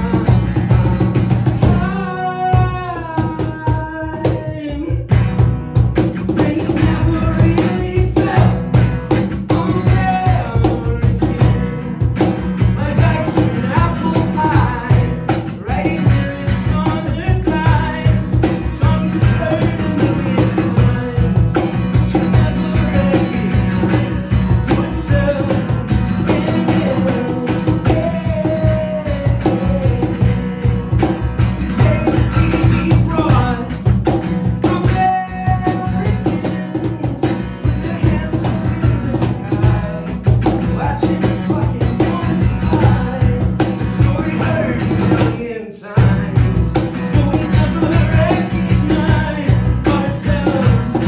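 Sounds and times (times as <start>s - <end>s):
acoustic guitar strummed fast: 0.0s - 51.0s.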